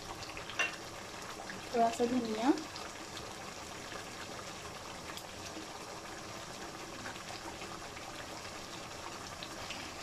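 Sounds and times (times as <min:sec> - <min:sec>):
curry simmering hiss: 0:00.0 - 0:10.0.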